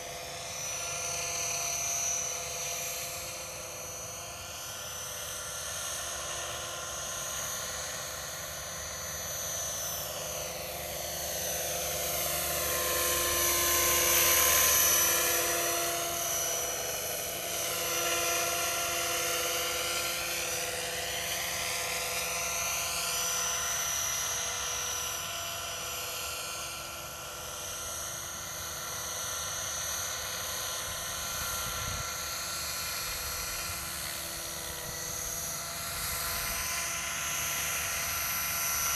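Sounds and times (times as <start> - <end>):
model helicopter whine: 0.0 - 38.9.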